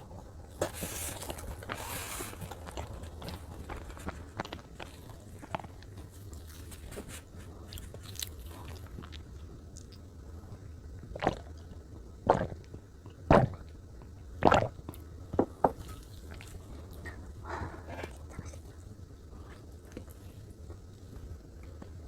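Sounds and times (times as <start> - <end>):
steady low hum: 0.0 - 22.0
close chewing with wet smacks: 0.5 - 15.1, 15.7 - 22.0.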